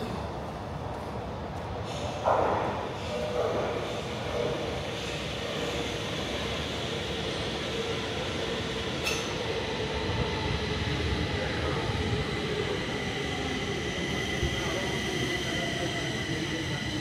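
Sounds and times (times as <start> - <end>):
metro train rumble and whine: 0.0 - 17.0.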